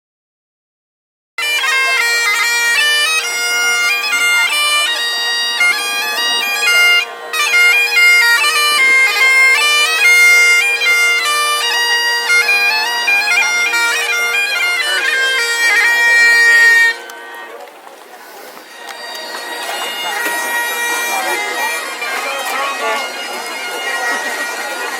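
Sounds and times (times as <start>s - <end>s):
bagpipe chanter melody: 1.4s - 24.9s
bagpipe drones humming: 1.4s - 24.9s.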